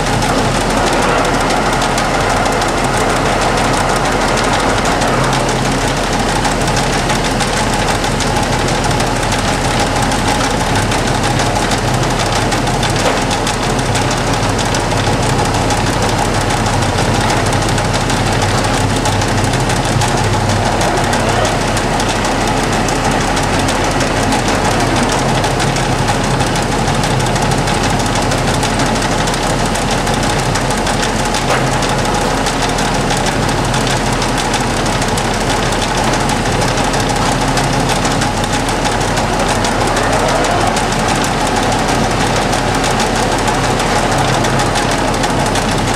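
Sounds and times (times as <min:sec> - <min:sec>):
lathe running: 0:00.0 - 0:45.9.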